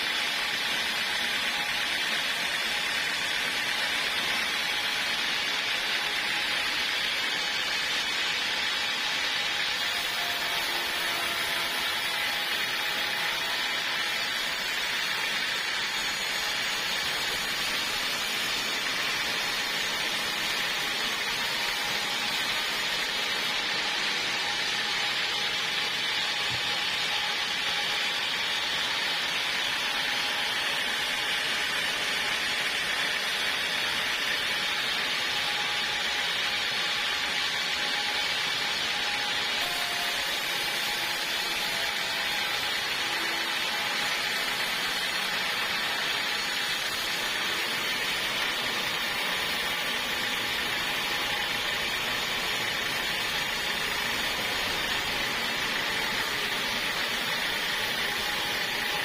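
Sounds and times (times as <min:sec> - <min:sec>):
sawmill sawing through log: 0:00.0 - 0:59.0.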